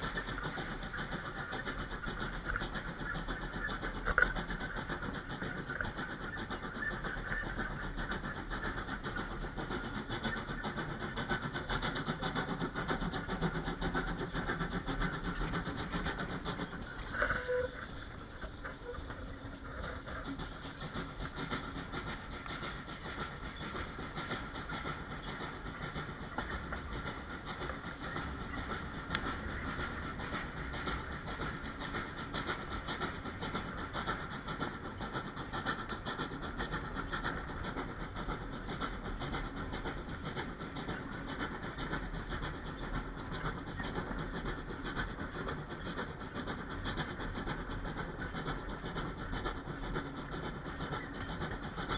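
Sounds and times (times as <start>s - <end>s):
steam locomotive working: 0.0s - 51.9s
train coaches rattling on track: 0.0s - 51.9s.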